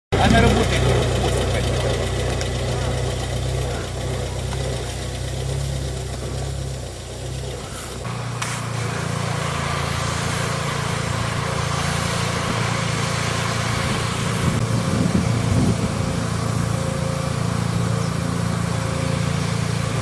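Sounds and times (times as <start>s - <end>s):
small engine running: 0.1s - 20.0s.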